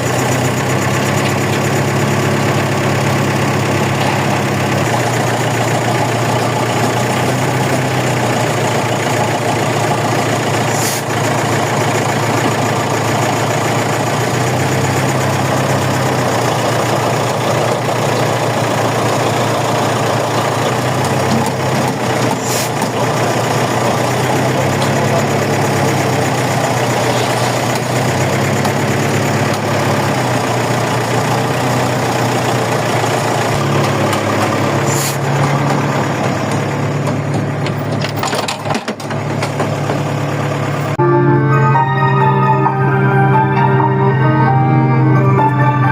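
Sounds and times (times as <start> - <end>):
heavy engine droning: 0.0 - 45.9.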